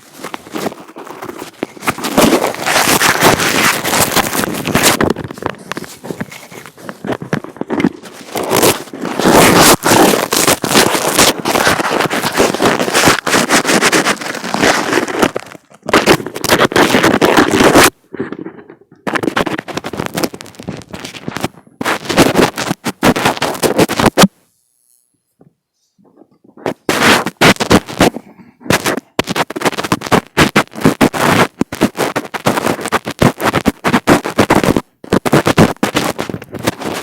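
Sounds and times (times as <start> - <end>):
fingers scratching on microphone: 0.0 - 37.0.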